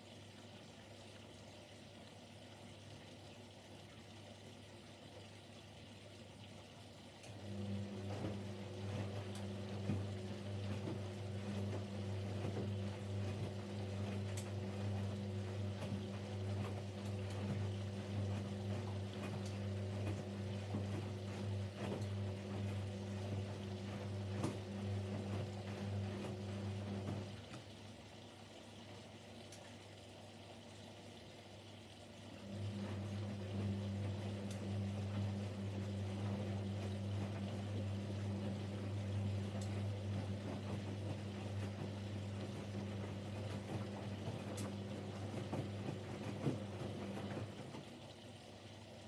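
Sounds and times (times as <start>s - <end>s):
washing machine humming: 0.2s - 49.0s.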